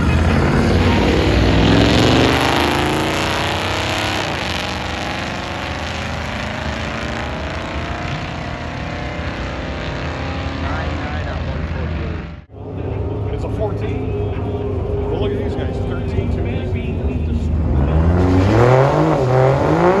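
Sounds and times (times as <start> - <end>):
drag car accelerating hard: 0.0 - 20.0.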